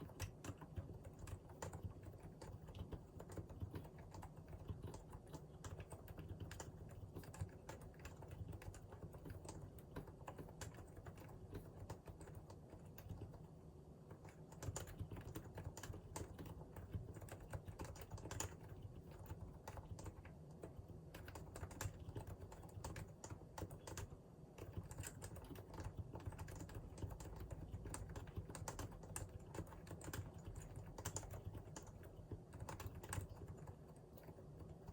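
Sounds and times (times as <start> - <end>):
soft keyboard typing: 0.0 - 34.9.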